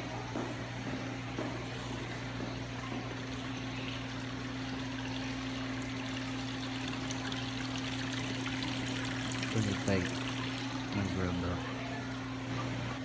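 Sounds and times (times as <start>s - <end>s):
low electric hum: 0.0s - 13.0s
water trickling: 1.6s - 12.8s.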